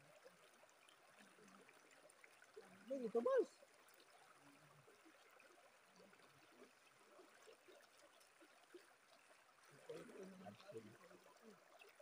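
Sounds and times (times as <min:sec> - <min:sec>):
shallow river flowing over rocks: 0:00.0 - 0:12.0.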